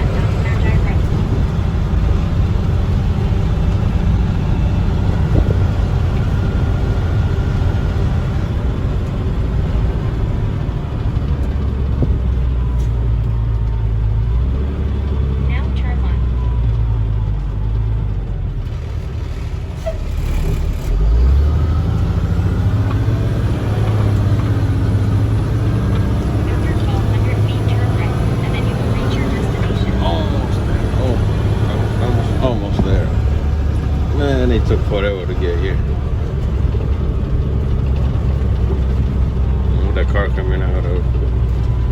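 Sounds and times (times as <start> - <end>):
truck engine rumble inside cab: 0.0 - 41.9.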